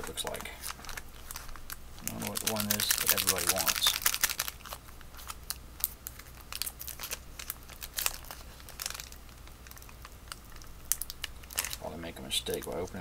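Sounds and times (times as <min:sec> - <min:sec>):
wrapper crinkling: 0:00.0 - 0:13.0.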